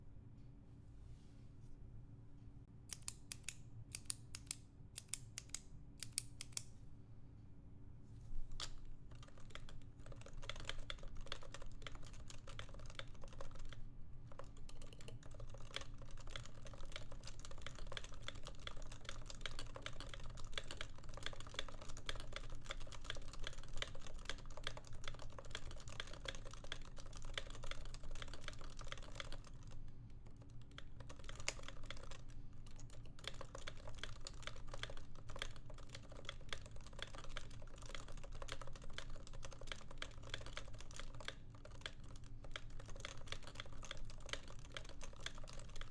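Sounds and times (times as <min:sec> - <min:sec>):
typing on a keyboard: 0:08.6 - 0:45.9.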